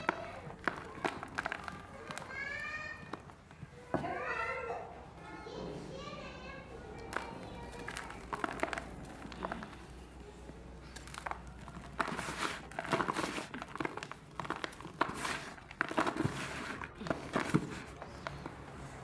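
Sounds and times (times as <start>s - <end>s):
mud crumbling crackle: 0.0s - 3.6s, 7.0s - 19.0s.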